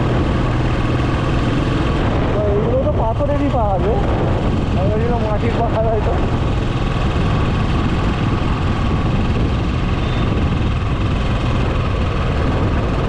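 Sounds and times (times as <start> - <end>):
motorcycle engine drone: 0.0 - 13.0
wind on microphone: 0.0 - 13.0.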